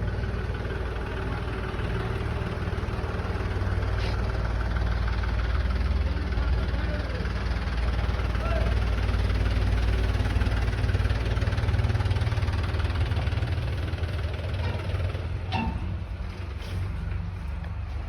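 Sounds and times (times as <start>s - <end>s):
engine running with low throb: 0.0s - 18.0s.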